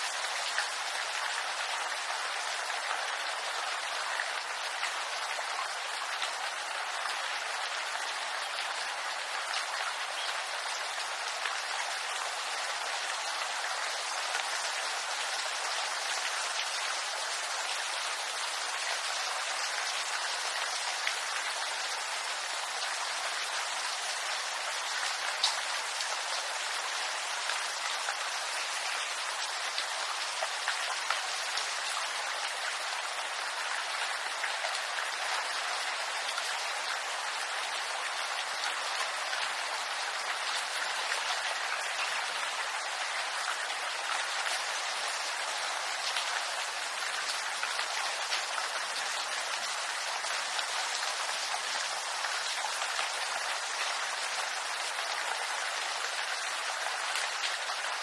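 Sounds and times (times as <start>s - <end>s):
rain drops ticking on leaves: 0.0s - 58.0s.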